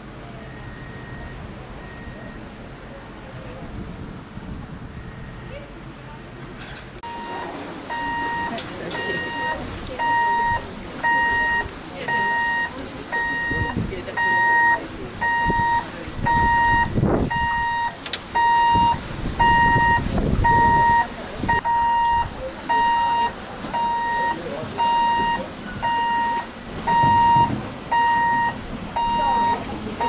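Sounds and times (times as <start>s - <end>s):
locomotive warning beeper: 0.5s - 2.5s, 7.0s - 30.0s.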